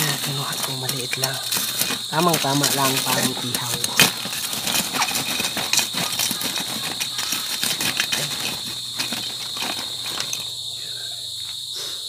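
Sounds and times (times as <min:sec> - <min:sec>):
charcoal lumps clattering: 0:00.0 - 0:10.7
crickets chirring: 0:00.0 - 0:12.0.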